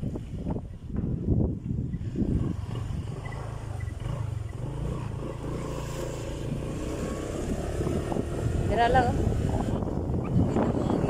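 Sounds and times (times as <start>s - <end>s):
scooter engine running: 1.0s - 11.0s.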